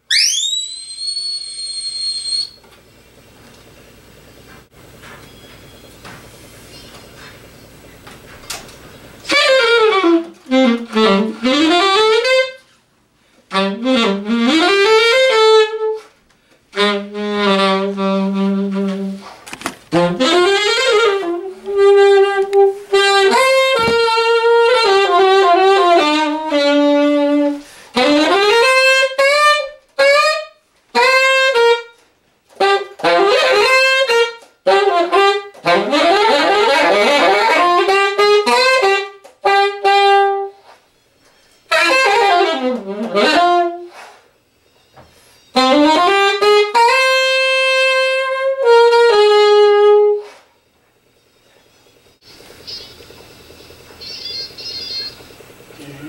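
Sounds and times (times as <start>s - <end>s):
solo saxophone jazz runs: 0.0s - 56.0s.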